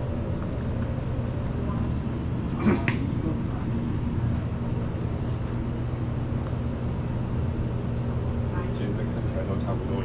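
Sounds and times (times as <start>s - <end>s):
refrigerator electrical hum: 0.0s - 10.0s.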